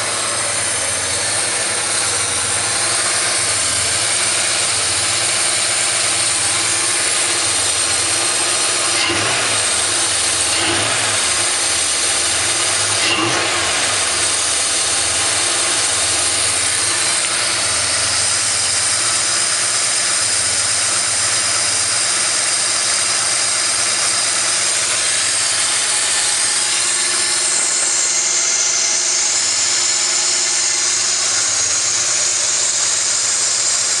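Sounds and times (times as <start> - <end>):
car engine idling roughly: 0.0 - 34.0.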